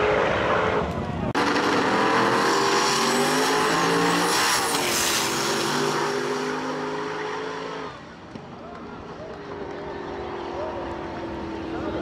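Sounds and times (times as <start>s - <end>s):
drag cars accelerating: 0.0s - 12.0s.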